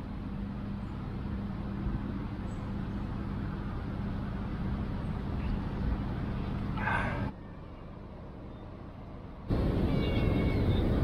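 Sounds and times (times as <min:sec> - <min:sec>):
constant low hum: 0:00.0 - 0:11.0
distant road traffic rumble: 0:00.0 - 0:11.0.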